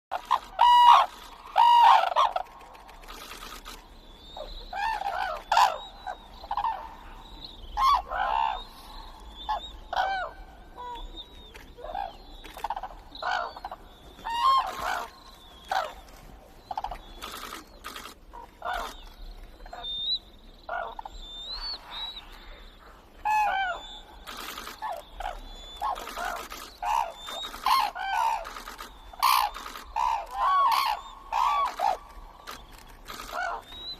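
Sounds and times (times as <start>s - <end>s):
cranes calling: 0.1s - 33.9s
high thin bird calls: 0.1s - 33.9s.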